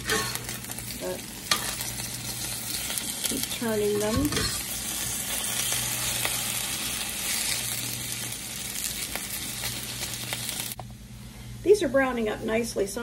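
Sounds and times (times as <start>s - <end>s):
potatoes sizzling in oil: 0.0s - 10.8s.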